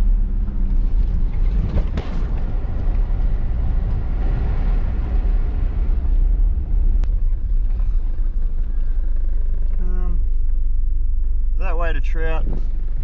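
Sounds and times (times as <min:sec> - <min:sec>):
engine and tyres on gravel: 0:00.0 - 0:13.0.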